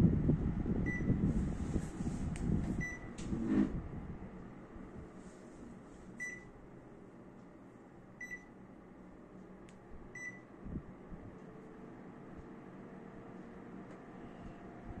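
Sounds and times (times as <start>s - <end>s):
air conditioner beeping: 0.0s - 15.0s
fan hiss: 0.0s - 15.0s.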